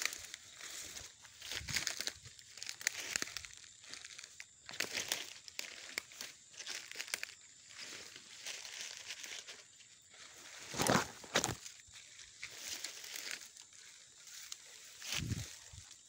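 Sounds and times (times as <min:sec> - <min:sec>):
leaves rustling and crackling underfoot: 0:00.0 - 0:16.0.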